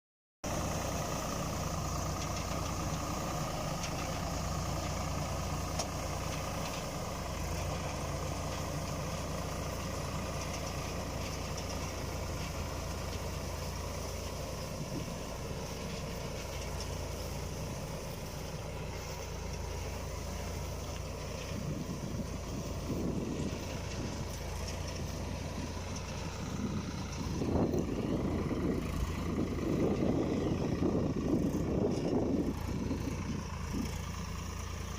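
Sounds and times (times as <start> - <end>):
diesel tractor engine running: 0.4 - 34.9.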